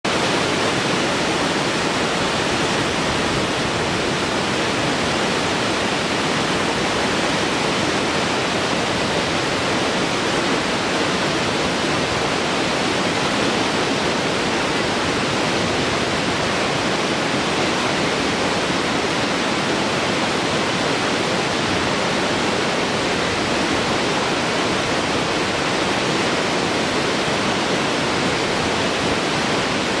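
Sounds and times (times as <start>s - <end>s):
waterfall roaring: 0.0s - 30.0s.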